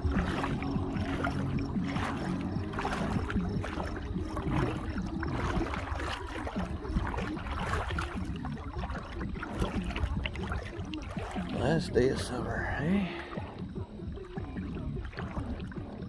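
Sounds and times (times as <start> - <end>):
river water gurgling: 0.0 - 16.0
wind buffeting microphone: 0.0 - 16.0.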